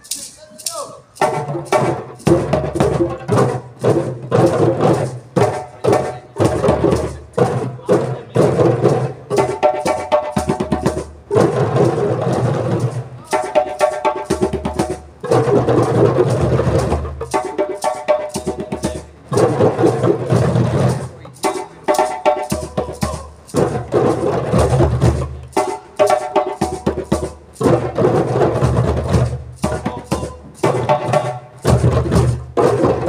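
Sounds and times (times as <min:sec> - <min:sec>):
djembes played by hand: 0:01.1 - 0:33.0.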